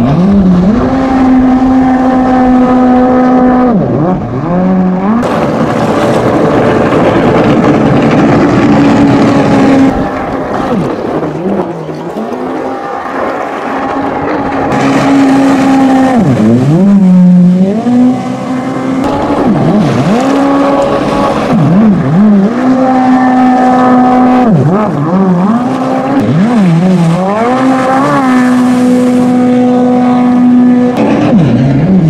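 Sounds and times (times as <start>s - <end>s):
jet ski engine revving: 0.0s - 32.0s.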